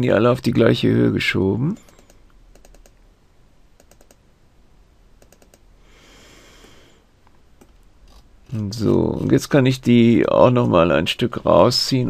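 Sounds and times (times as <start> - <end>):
soft hiss: 0.0 - 12.0.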